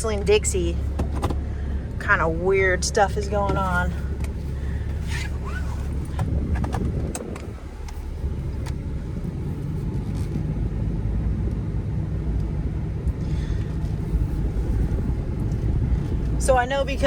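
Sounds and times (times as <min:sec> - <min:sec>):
diesel engine rumbling: 0:00.0 - 0:17.0
road noise: 0:00.0 - 0:17.0.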